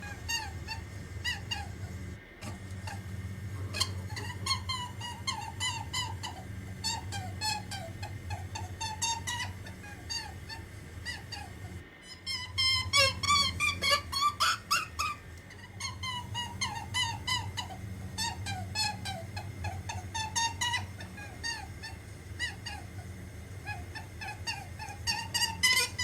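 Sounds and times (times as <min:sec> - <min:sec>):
rabbit squeaky whimpers: 0:00.0 - 0:26.0
steady low hum: 0:00.0 - 0:26.0.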